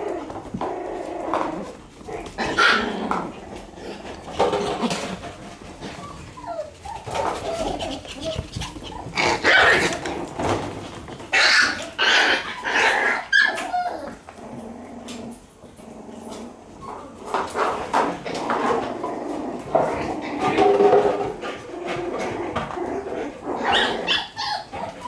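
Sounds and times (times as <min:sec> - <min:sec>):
puppies yapping and barking: 0:00.0 - 0:14.6, 0:16.4 - 0:25.0.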